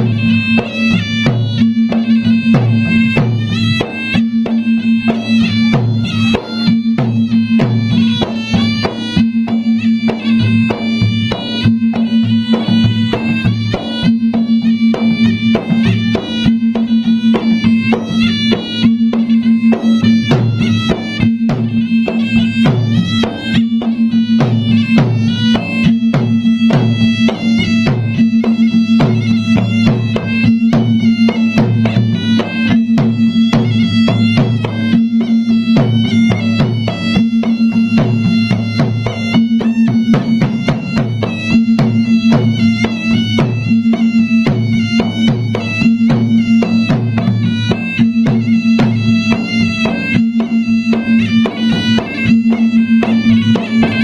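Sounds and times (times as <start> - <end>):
rapid drum strokes: 0.0 - 54.0
reedy wind melody: 0.0 - 54.0.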